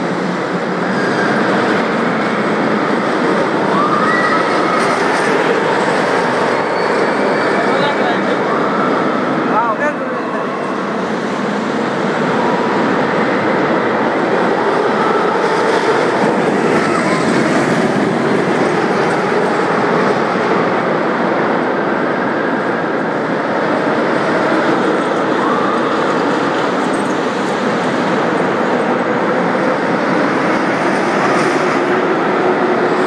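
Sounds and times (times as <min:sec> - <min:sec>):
roller coaster rumbling on track: 0:00.0 - 0:33.0.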